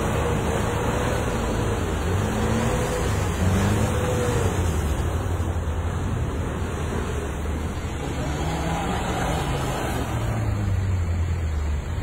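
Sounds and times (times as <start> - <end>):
car engine revving: 0.0 - 12.0
tyres sliding through wet mud: 0.0 - 12.0.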